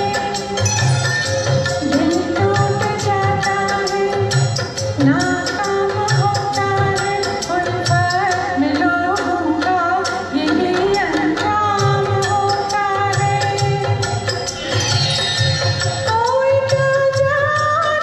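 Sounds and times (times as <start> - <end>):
tabla drum strokes: 0.0 - 18.0.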